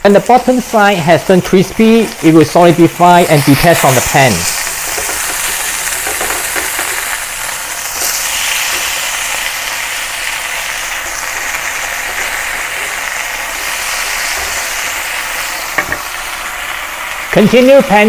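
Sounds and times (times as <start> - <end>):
meat sizzling in a skillet: 0.1 - 18.0.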